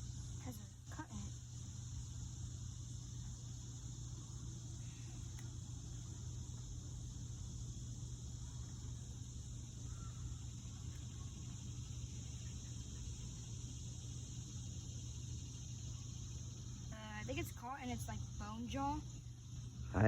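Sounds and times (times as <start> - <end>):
insects buzzing: 0.0 - 20.0
low steady hum: 0.0 - 20.0.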